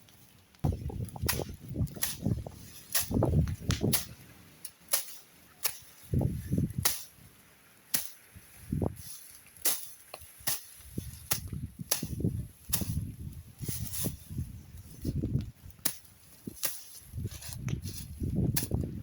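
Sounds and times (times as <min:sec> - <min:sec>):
grass cutting snaps: 0:00.0 - 0:19.0
low rustling of grass: 0:00.0 - 0:19.0.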